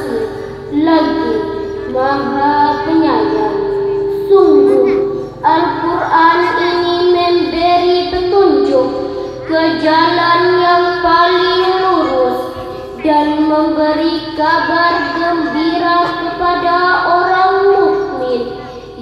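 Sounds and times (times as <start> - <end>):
girl reciting melodically: 0.0 - 19.0.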